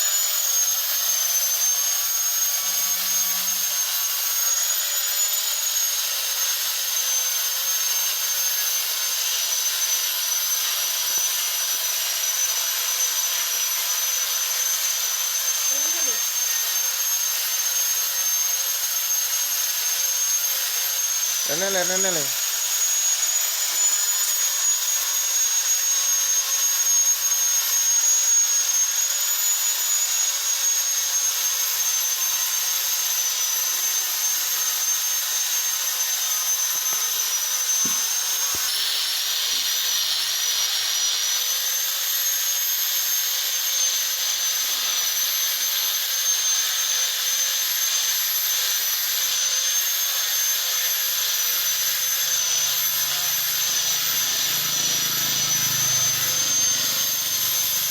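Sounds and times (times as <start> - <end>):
angle grinder whining: 0.0 - 57.9.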